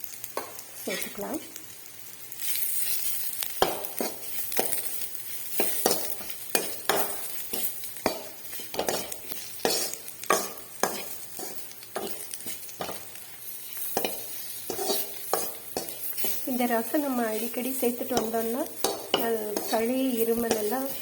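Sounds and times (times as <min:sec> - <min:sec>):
food sizzling in oil: 0:00.0 - 0:21.0
spoon scraping a pan: 0:02.4 - 0:21.0.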